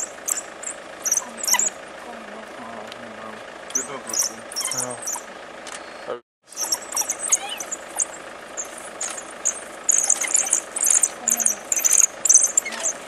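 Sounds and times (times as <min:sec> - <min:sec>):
vehicle engine idling: 0:00.0 - 0:13.0
wild dogs twittering and squeaking: 0:00.0 - 0:13.0.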